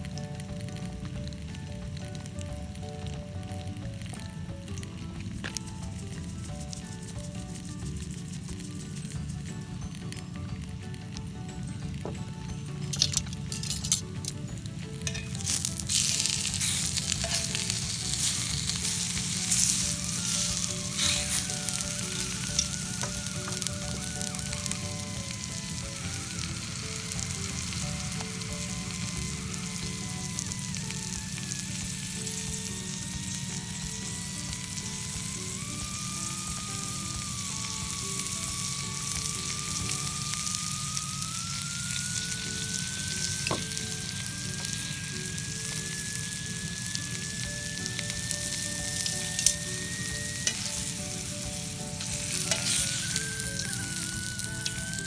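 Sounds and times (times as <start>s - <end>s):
mushrooms sizzling in a frying pan: 0.0s - 55.0s.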